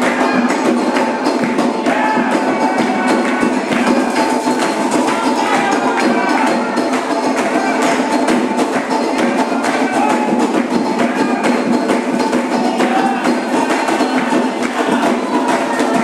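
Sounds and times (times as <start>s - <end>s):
hand percussion: 0.0s - 16.0s.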